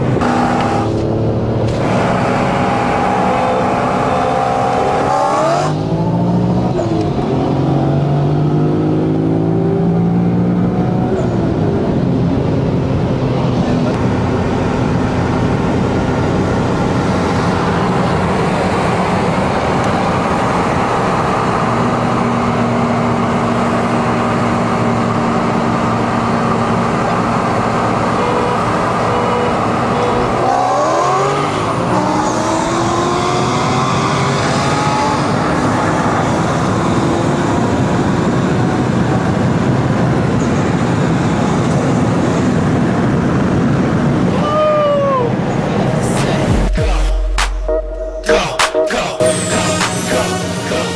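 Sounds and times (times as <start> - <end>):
car engine revving and accelerating: 0.0 - 44.4.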